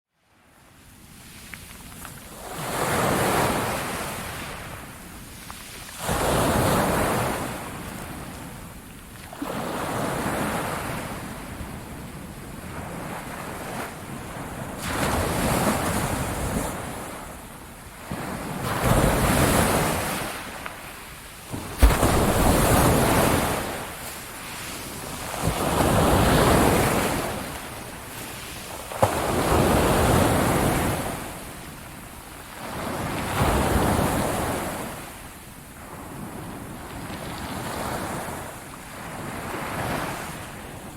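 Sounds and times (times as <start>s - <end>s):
ocean waves breaking on beach: 0.4s - 40.9s.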